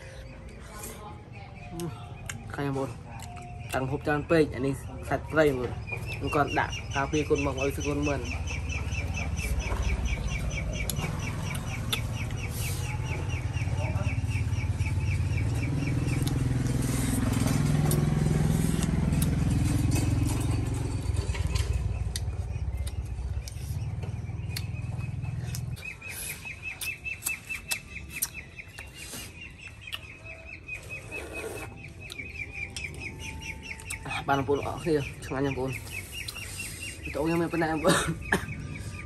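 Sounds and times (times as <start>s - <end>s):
low engine hum: 0.0s - 39.0s
rapid high chirping: 0.0s - 39.0s.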